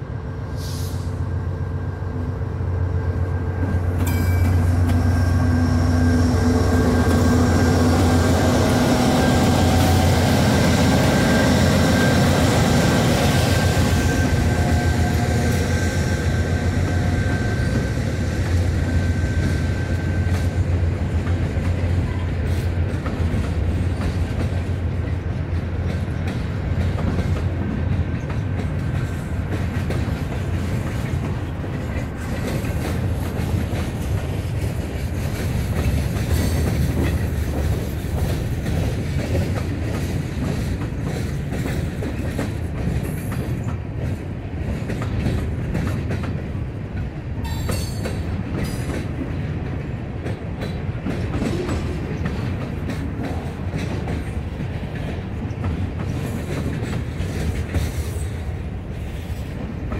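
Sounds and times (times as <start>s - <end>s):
low train rumble: 0.0s - 59.9s
train wheels clicking over rails: 2.6s - 59.9s.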